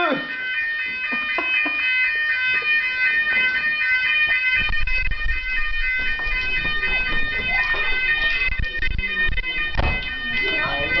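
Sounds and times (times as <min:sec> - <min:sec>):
fire alarm steady high tone: 0:00.0 - 0:11.0.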